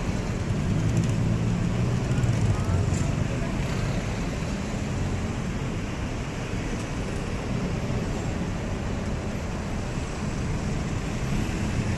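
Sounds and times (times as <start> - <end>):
rumble of passing vehicles: 0.0 - 11.9.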